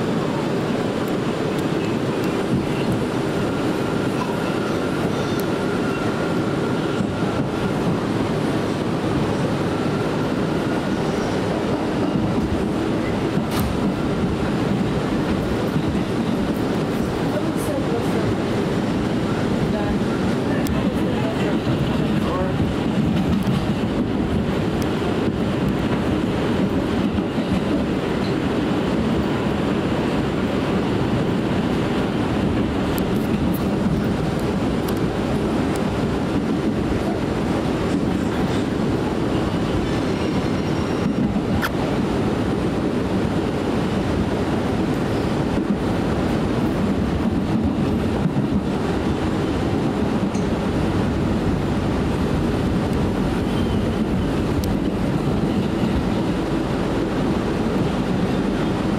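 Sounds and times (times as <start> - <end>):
subway car running noise: 0.0 - 58.9
wheels rumbling on rail: 0.0 - 58.9.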